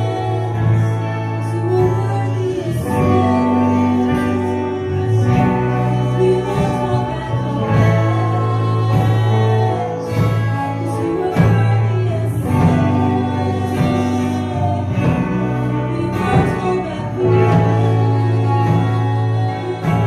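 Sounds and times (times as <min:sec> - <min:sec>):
band playing sustained chords: 0:00.0 - 0:20.0
voices singing: 0:00.0 - 0:20.0.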